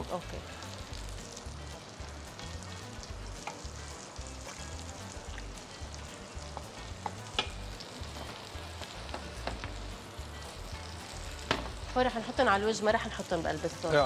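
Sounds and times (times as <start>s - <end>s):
mushrooms sizzling in a frying pan: 0.0s - 14.0s.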